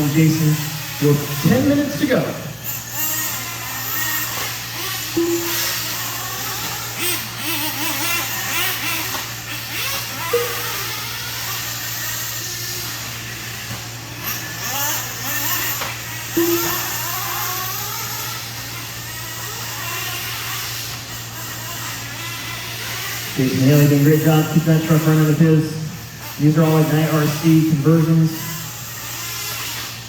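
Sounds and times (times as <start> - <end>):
rc truck engines revving: 0.0 - 30.0
steady low hum: 0.0 - 30.0.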